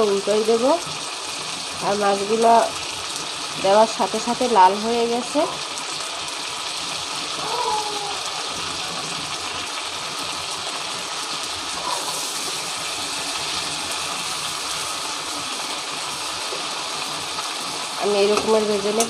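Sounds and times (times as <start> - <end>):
prawns sizzling in oil: 0.0 - 19.0.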